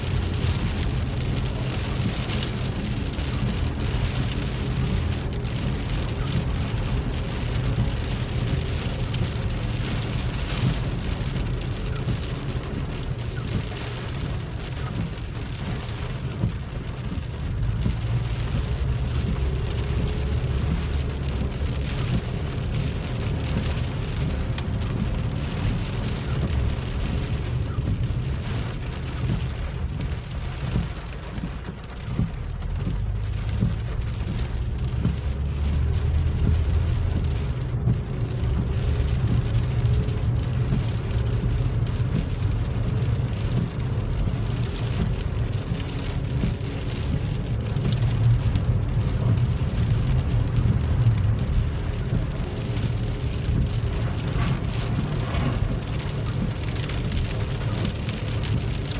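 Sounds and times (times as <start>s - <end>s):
engine and tyres rumbling: 0.0s - 58.9s
rain pattering on car roof: 0.0s - 58.9s.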